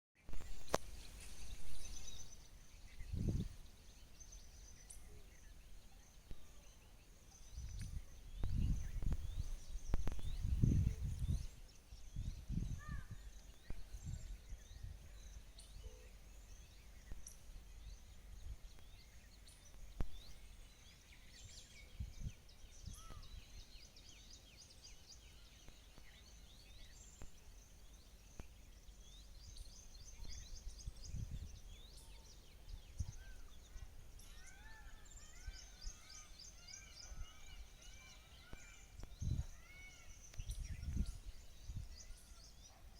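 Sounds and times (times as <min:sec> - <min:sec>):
small birds chirping: 0:00.2 - 0:42.9.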